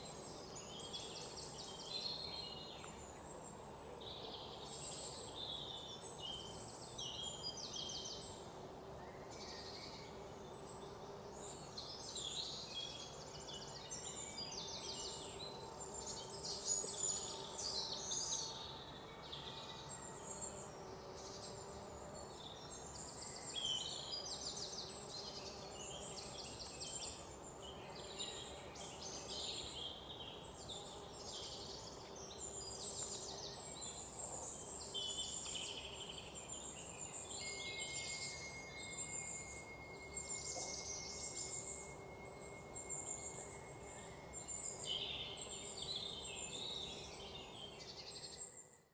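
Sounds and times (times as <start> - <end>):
birds singing and trilling: 0.0 - 8.4, 9.0 - 48.8
low background hiss: 0.0 - 48.7.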